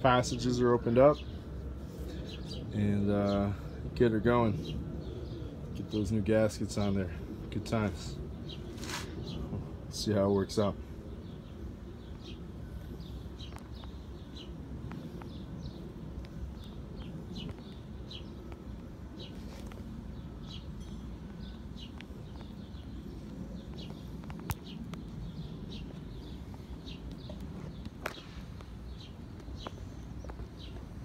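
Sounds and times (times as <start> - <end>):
small birds chirping: 0.0 - 31.0
steady low background noise: 0.0 - 31.0.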